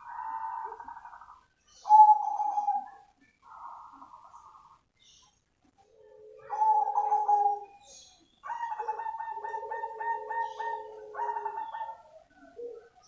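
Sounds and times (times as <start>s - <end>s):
dove cooing: 0.0s - 4.8s, 5.8s - 13.0s.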